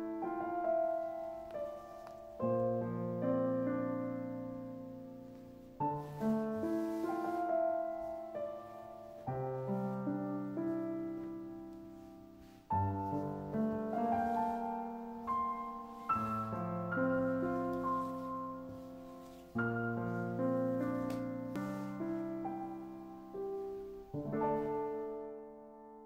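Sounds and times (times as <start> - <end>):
solo piano playing slow chords: 0.0 - 26.0.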